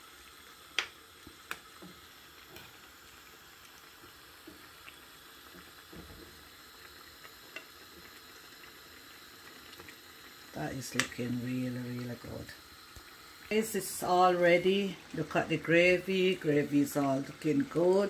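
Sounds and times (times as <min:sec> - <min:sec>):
gravy bubbling in a frying pan: 0:00.0 - 0:18.0.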